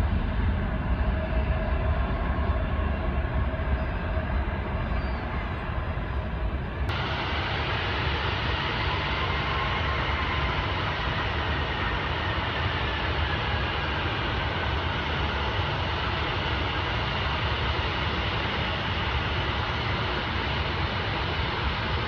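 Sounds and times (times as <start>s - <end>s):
jet airliner engine rumble: 0.0s - 22.0s.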